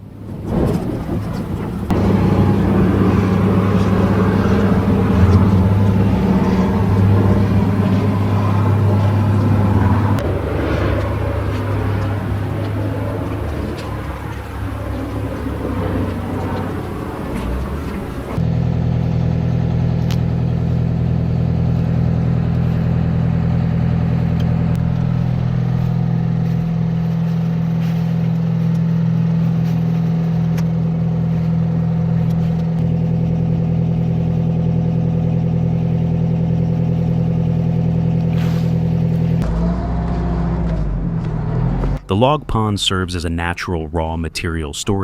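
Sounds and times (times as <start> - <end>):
boat engine running: 0.0 - 45.0.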